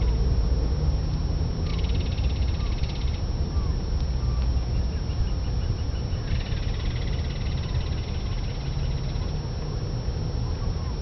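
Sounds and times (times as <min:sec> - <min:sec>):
steady low rumble: 0:00.0 - 0:11.0
songbirds trilling: 0:01.6 - 0:11.0.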